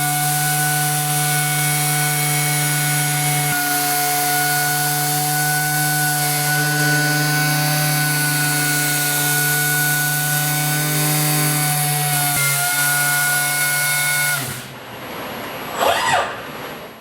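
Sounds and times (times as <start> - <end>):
orbital sander running: 0.0 - 14.6.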